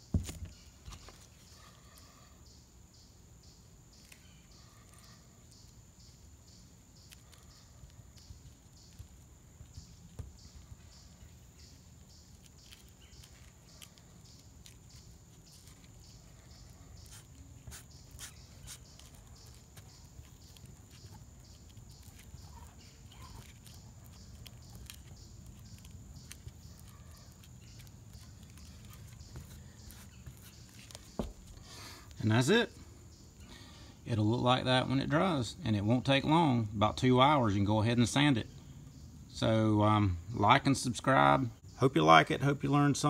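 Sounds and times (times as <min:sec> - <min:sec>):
insect chirping: 0:00.0 - 0:43.0.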